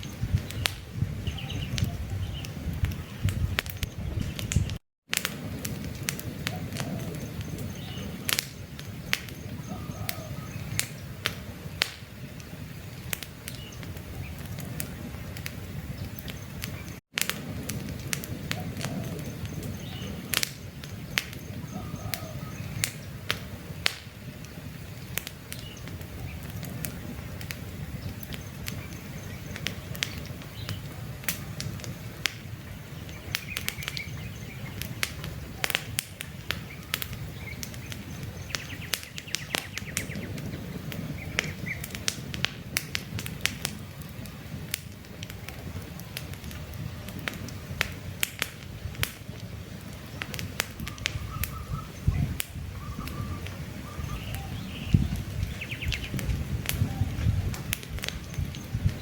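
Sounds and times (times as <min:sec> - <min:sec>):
campfire crackling and popping: 0:00.0 - 0:59.0
low rumble of fire: 0:00.0 - 0:59.0.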